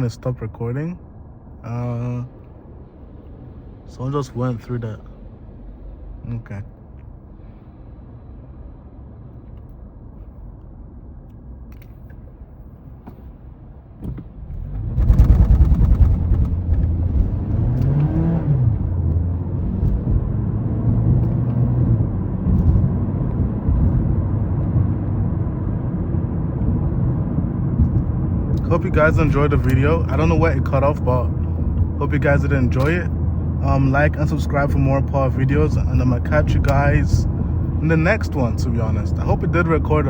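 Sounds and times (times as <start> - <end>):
car engine rumble: 0.0 - 40.0.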